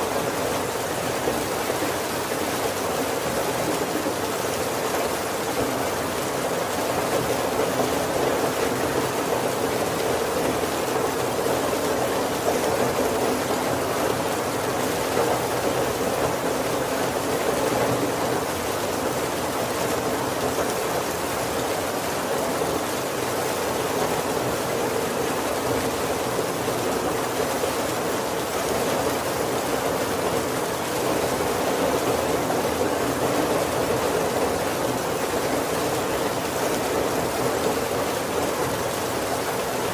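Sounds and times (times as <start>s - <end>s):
heavy rain on wooden roof: 0.0s - 39.9s.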